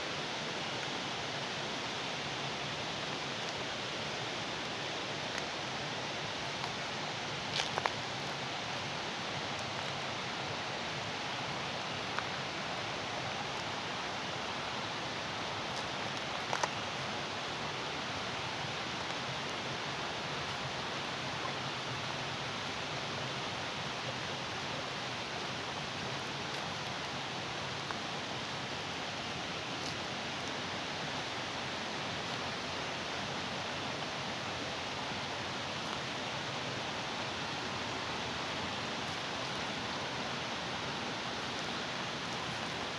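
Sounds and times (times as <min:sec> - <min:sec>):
running water: 0:00.1 - 0:42.9.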